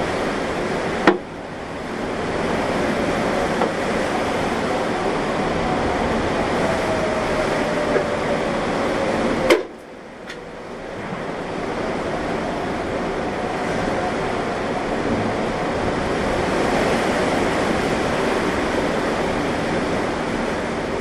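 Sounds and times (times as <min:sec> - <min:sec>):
heavy rain: 0:00.0 - 0:21.0
storm wind: 0:00.0 - 0:21.0.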